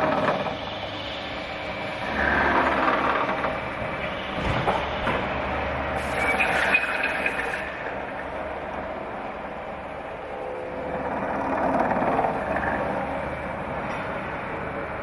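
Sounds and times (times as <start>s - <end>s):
industrial machinery clatter and hum: 0.0s - 15.0s.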